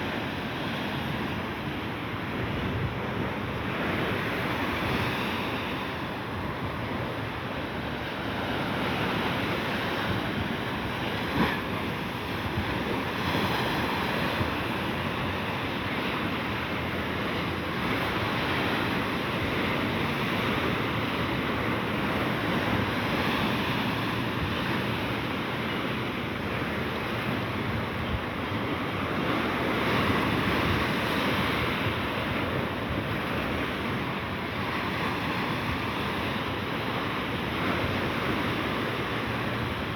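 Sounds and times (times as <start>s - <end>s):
sea waves breaking ashore: 0.0s - 39.9s
wind buffeting microphone: 0.0s - 39.9s.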